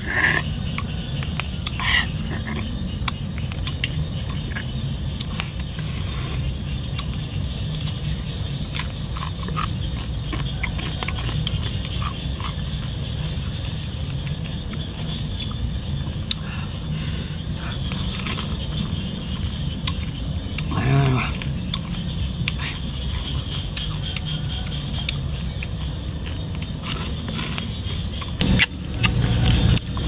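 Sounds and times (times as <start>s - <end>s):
chewing: 0.0s - 30.0s
low rumble: 0.0s - 30.0s.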